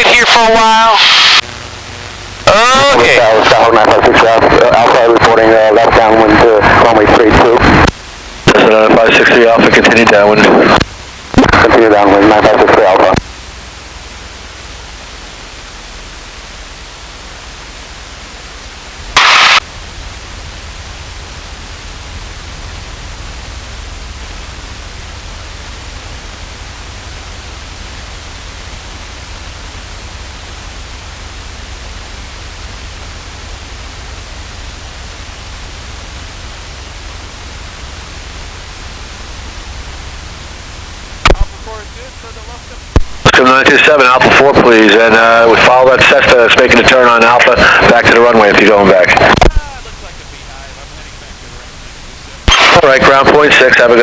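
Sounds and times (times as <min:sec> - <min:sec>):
loud static burst: 0:00.0 - 0:54.0
low hum: 0:00.0 - 0:54.0
radio static hiss: 0:00.0 - 0:54.0.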